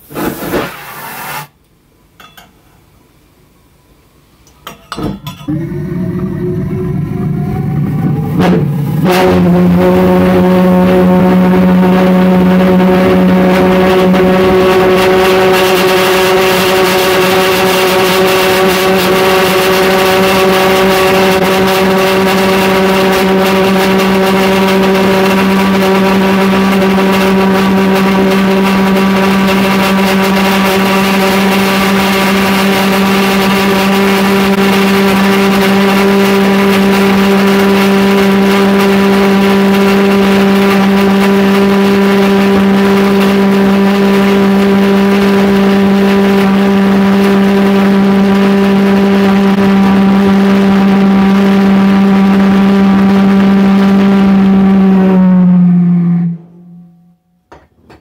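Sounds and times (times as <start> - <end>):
pulse jet engine droning: 4.7 - 57.2.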